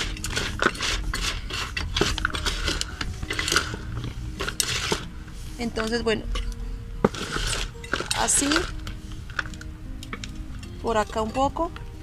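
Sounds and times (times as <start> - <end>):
soil scraping and rustling: 0.0 - 11.5.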